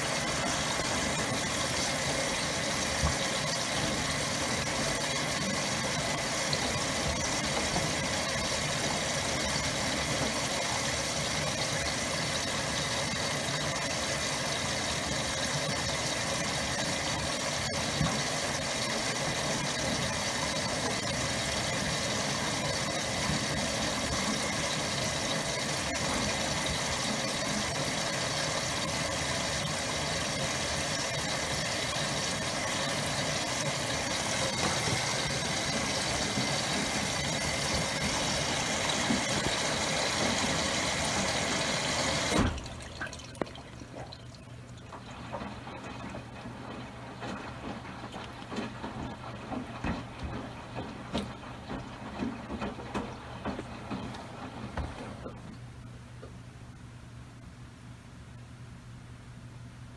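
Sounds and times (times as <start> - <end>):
washing machine hum: 0.0 - 59.9.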